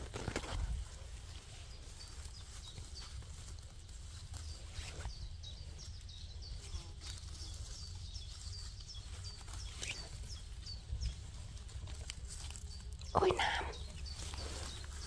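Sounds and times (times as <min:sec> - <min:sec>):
rustling leaf litter: 0:00.0 - 0:15.0
small bird chirping: 0:01.3 - 0:15.0.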